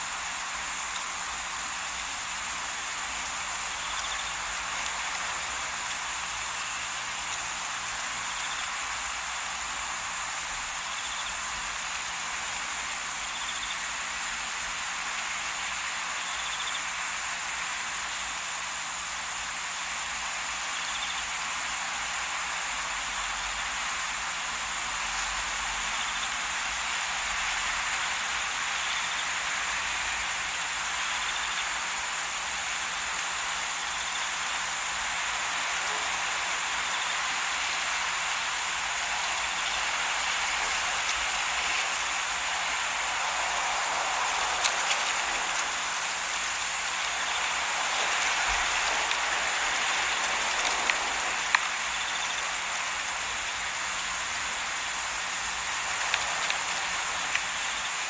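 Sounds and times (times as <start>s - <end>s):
high hiss: 0.0s - 58.0s.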